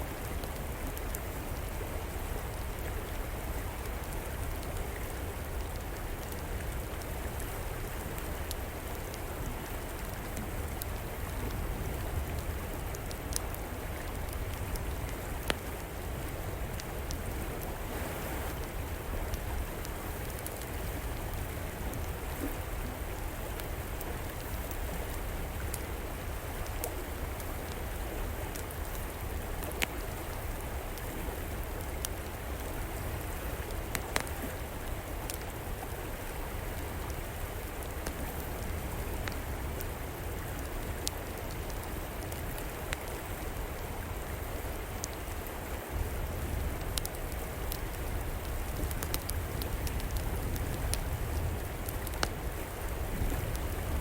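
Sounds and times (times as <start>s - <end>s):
river water flowing: 0.0s - 54.0s
wood fire crackling: 0.2s - 43.7s, 44.7s - 54.0s.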